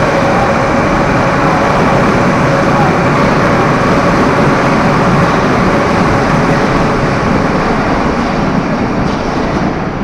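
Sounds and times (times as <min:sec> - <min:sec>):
metro train running: 0:00.0 - 0:10.0.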